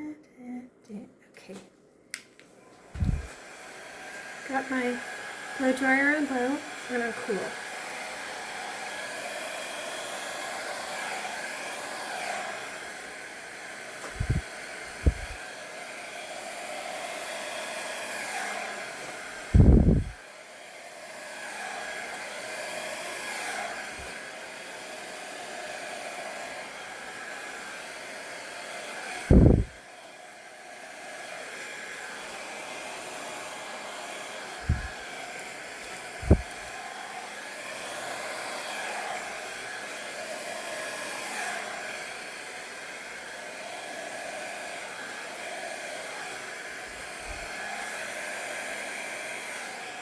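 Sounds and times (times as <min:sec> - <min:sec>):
hair dryer running: 0:02.2 - 0:50.0.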